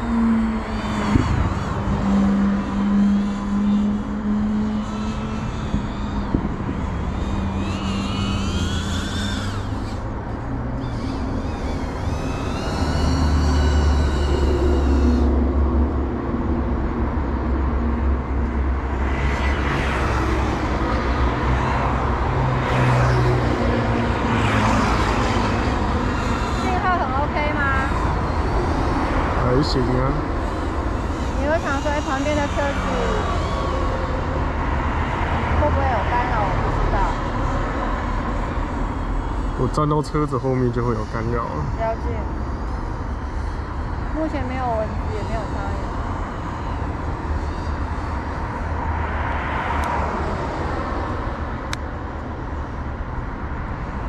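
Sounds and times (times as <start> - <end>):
drone motors whining: 0.0 - 54.0
low vehicle rumble: 0.0 - 54.0.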